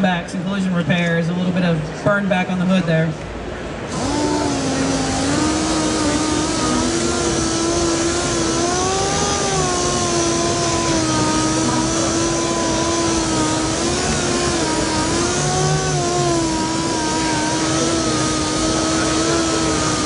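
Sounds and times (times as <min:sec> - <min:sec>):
orbital sander whining: 0:03.9 - 0:20.0.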